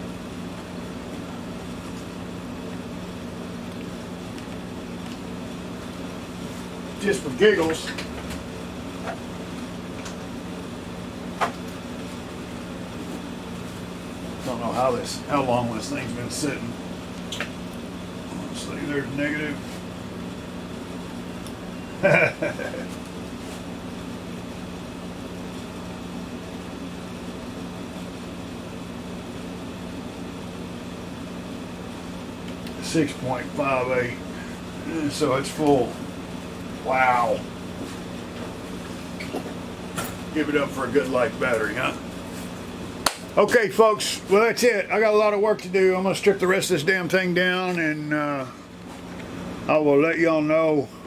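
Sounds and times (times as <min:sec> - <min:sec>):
air conditioner humming: 0:00.0 - 0:51.0.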